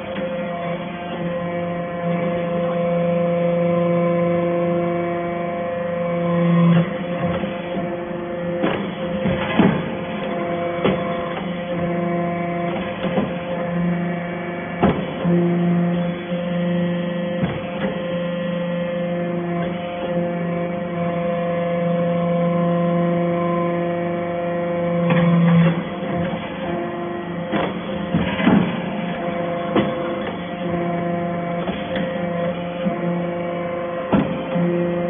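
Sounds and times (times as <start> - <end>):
hydraulic baler hum: 0.0 - 35.0.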